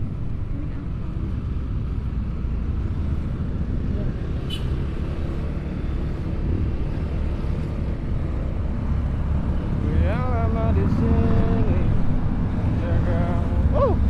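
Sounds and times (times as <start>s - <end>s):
road vehicles rumbling: 0.0s - 14.0s.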